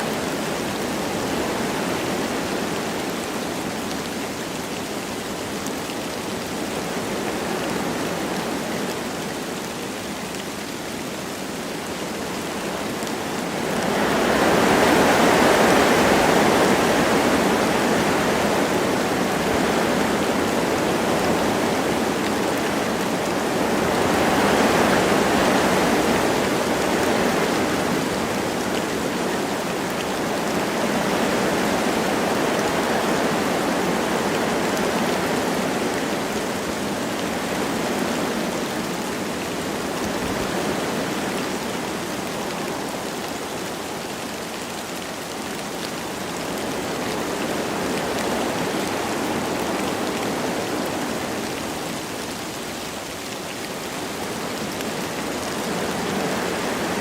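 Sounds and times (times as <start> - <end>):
light rain falling: 0.0 - 57.0
wind through trees: 0.0 - 57.0.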